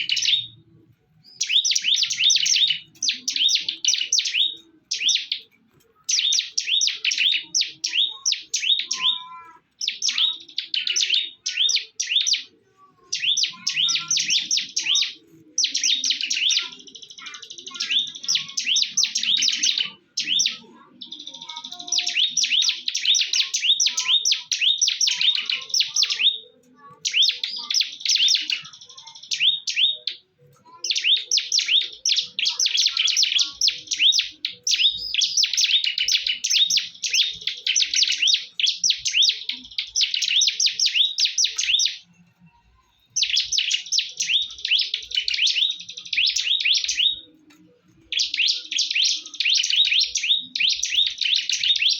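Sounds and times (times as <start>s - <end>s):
bird singing high chirps: 0.0s - 51.9s.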